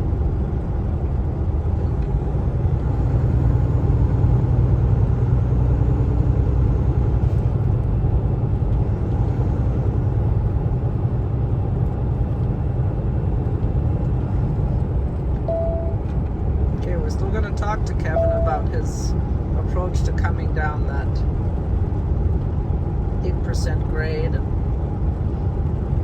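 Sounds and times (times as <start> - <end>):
diesel truck engine rumble: 0.0 - 26.0
road noise: 0.0 - 26.0.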